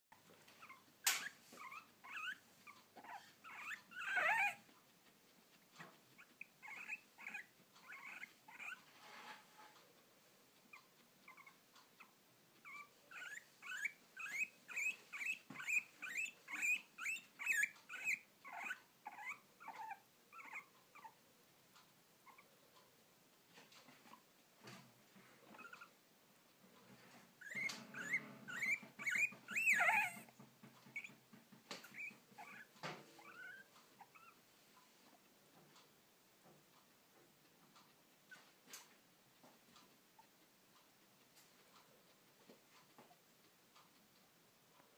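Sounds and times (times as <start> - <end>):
guinea pig hiccuping: 0.1 - 8.9, 9.8 - 35.9, 37.1 - 44.9.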